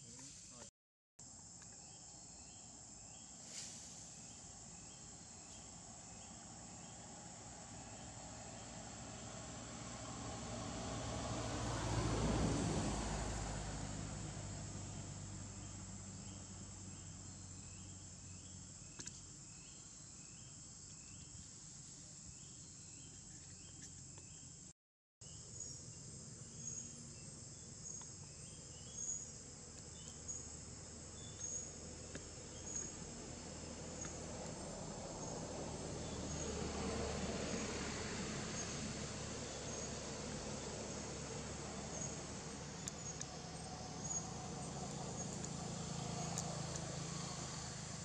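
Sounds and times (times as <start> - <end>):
insects buzzing: 0.0 - 48.0.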